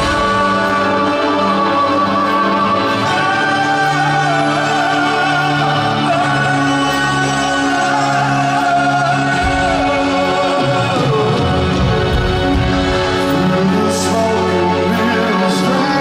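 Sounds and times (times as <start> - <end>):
man singing: 0.0 - 16.0.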